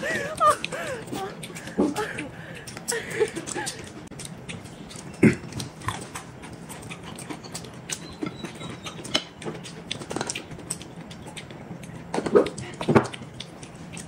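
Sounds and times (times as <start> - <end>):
chewing noodles and dumplings: 0.0 - 14.0.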